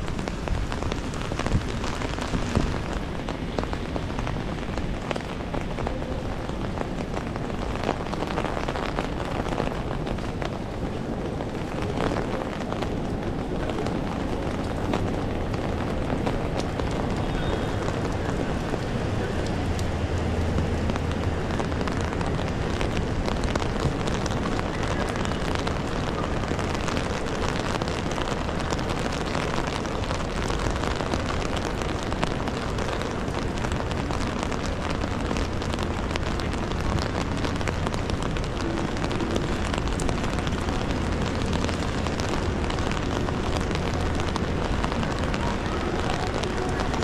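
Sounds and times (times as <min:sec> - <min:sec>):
city traffic rumble: 0:00.0 - 0:47.0
steady rain patter: 0:00.0 - 0:47.0.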